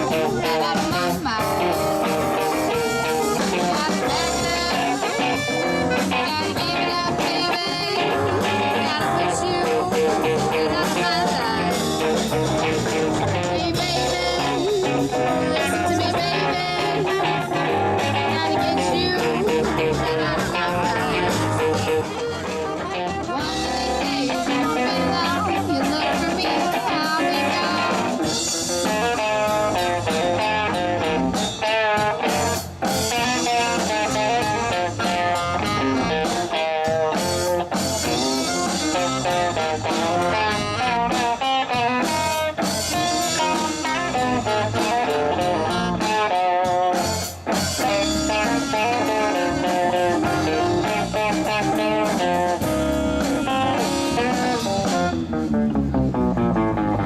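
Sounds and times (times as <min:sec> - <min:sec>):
electric guitar: 0:00.0 - 0:57.0
live blues band playing: 0:00.0 - 0:57.0.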